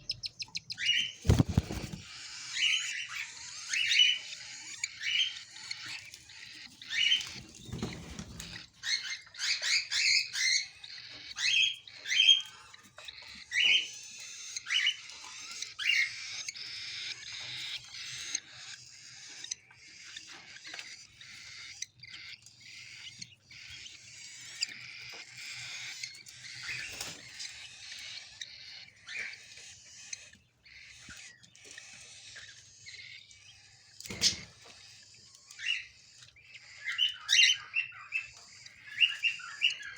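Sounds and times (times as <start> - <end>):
chick squeaky chirps and squeals: 0.0 - 39.9.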